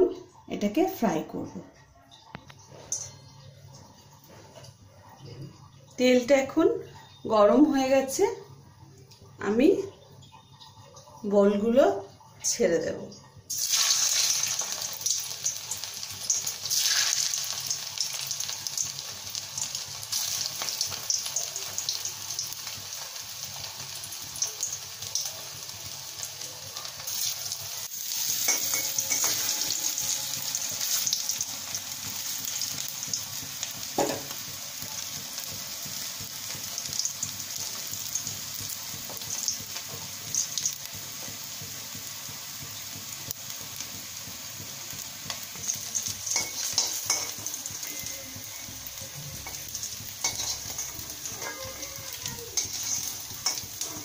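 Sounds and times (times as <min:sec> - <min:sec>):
food deep-frying in hot oil: 0:00.0 - 0:54.0.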